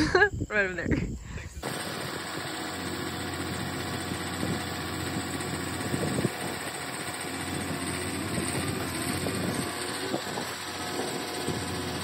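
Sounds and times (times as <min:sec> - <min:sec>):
hydraulic auger raising: 0:01.6 - 0:12.0
tractor engine running: 0:01.6 - 0:12.0.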